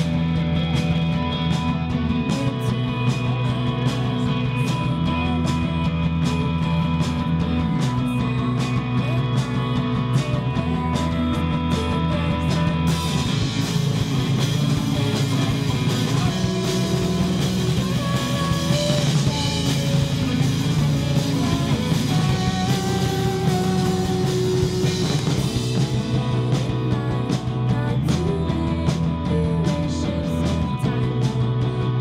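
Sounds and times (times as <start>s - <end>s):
rock band playing live: 0.0s - 32.0s.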